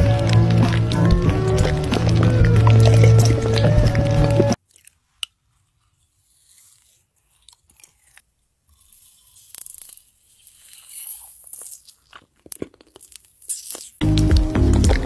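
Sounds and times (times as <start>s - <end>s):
crunching and chewing food: 0.0s - 15.0s.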